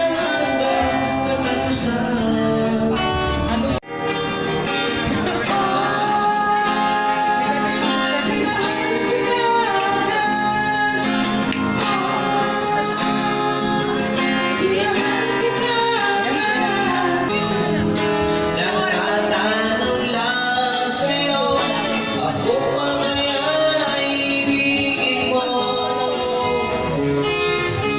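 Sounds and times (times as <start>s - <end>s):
acoustic guitar song with singing: 0.0s - 27.9s.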